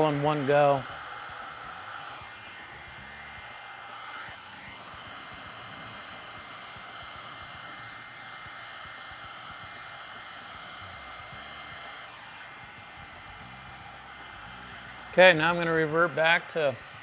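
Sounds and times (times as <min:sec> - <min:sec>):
heat gun blowing: 0:00.0 - 0:17.0.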